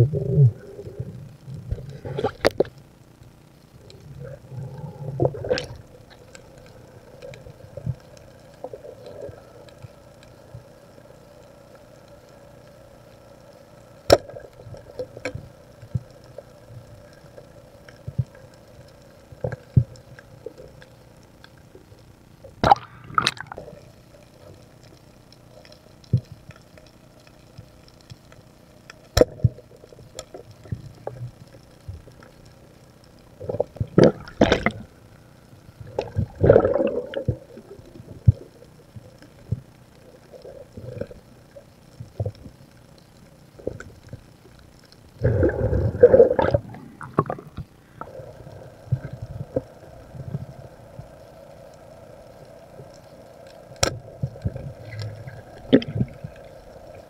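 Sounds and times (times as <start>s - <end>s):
faint underwater hum: 0.0s - 57.0s
gurgling water movement: 0.0s - 57.0s.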